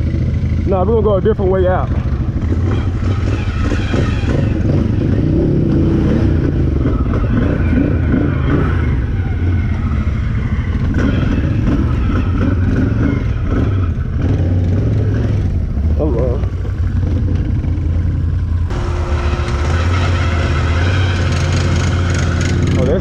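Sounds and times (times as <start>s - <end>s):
engine running at low revs: 0.0s - 23.0s.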